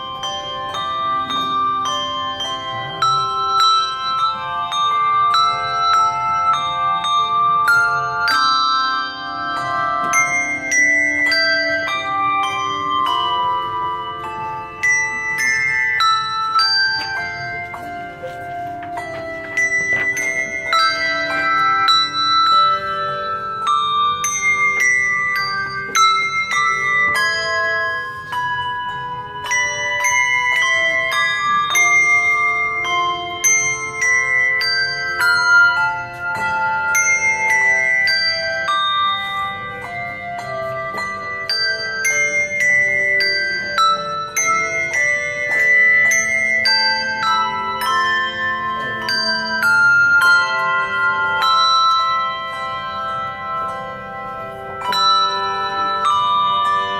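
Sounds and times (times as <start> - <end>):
handbells playing a melody: 0.0 - 56.9.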